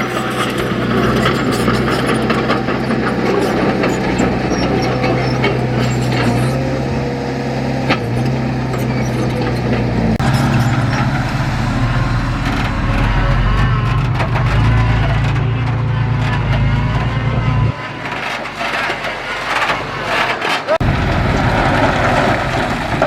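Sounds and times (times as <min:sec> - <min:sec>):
metal knocks and clanks: 0:00.0 - 0:06.6, 0:07.9 - 0:23.0
heavy diesel engine running: 0:00.0 - 0:23.0.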